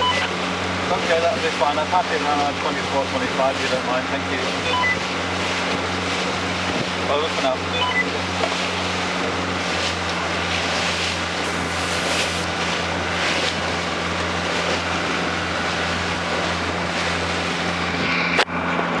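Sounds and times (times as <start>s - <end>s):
boat engine droning: 0.0s - 19.0s
rush of wind and water: 0.0s - 19.0s.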